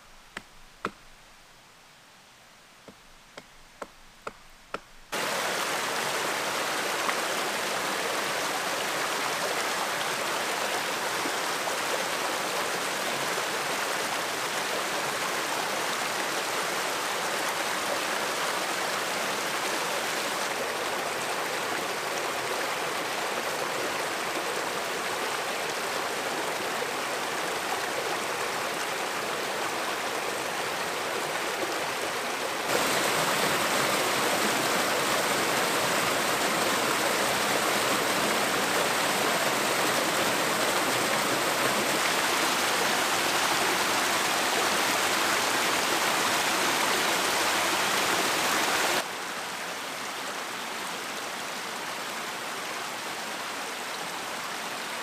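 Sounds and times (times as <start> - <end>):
stream rushing over rocks: 2.8 - 55.0.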